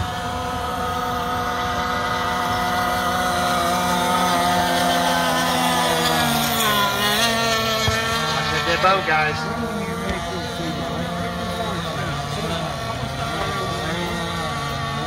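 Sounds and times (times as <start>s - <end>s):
model boat engines whining: 0.0s - 15.0s.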